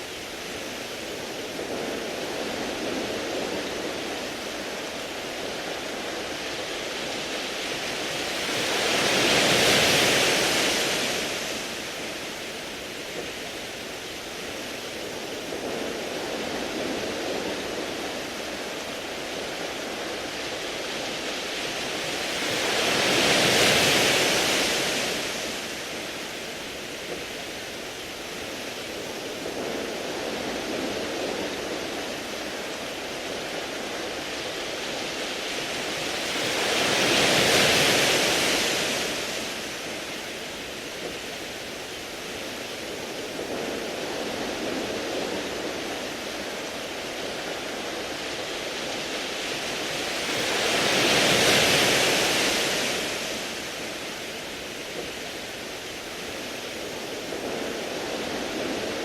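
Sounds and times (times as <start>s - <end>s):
waves washing onto pebbles: 0.0s - 59.0s.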